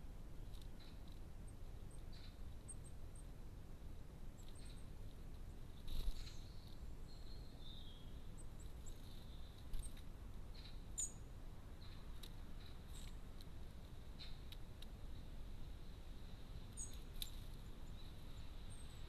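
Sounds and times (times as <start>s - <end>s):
small birds chirping: 0.0s - 3.5s, 4.2s - 19.0s.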